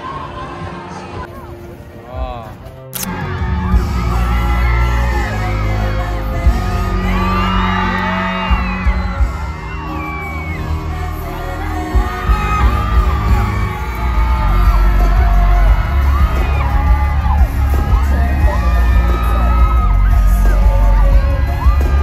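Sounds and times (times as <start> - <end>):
crowd screaming and cheering: 0.0 - 22.0
loud live pop music: 3.0 - 22.0.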